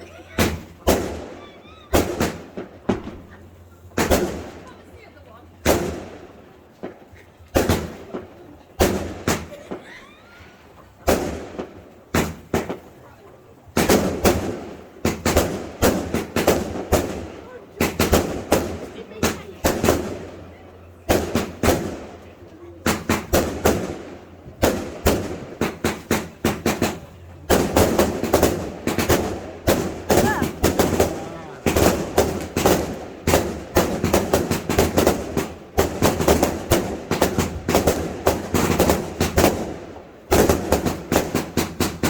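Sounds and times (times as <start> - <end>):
fireworks exploding: 0.0 - 42.0.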